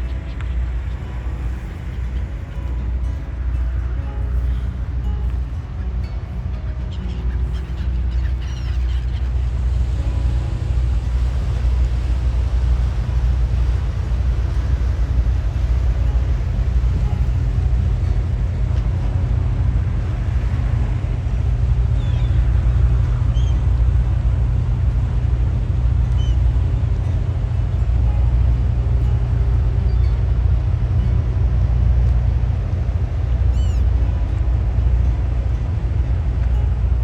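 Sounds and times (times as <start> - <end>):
boat diesel engine droning: 0.0 - 37.0.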